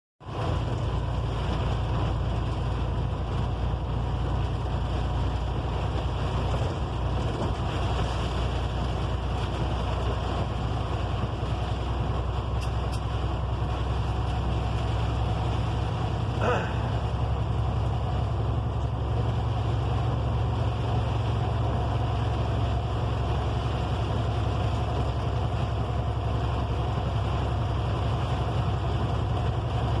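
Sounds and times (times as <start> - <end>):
road noise: 0.2 - 30.0
vehicle engine rumble: 0.2 - 30.0.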